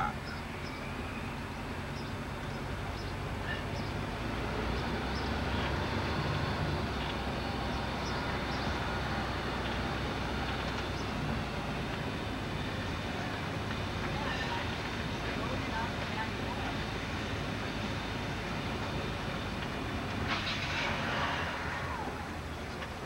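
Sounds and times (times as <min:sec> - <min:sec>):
car driving slowly: 0:00.0 - 0:23.0.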